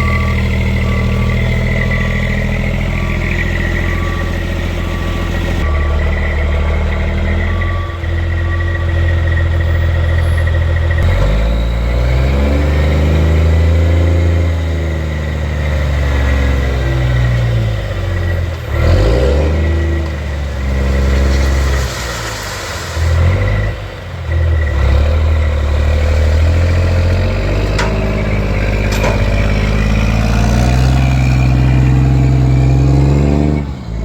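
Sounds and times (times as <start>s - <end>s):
diesel truck engine revving: 0.0s - 34.0s.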